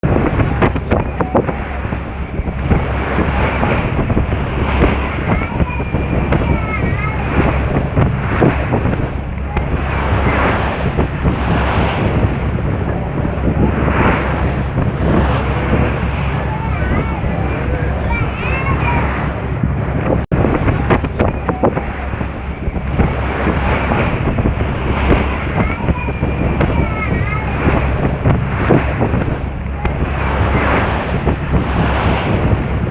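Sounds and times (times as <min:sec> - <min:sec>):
waves washing on shore: 0:00.0 - 0:32.9
wind buffeting microphone: 0:00.0 - 0:32.9.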